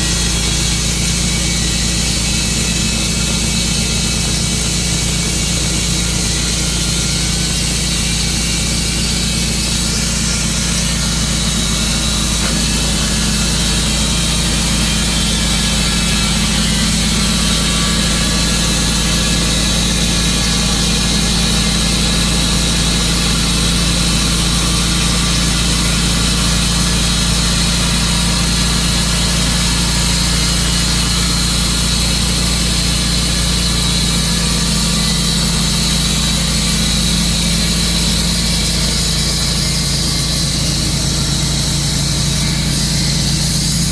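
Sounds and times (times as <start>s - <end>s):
saw whining: 0.0s - 43.9s
sawmill engine drone: 0.0s - 43.9s.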